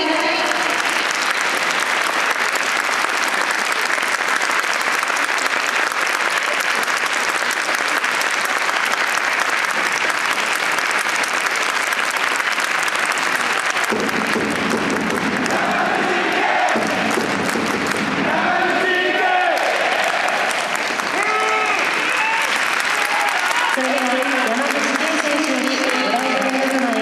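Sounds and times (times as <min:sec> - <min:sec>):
stadium crowd applauding: 0:00.0 - 0:27.0.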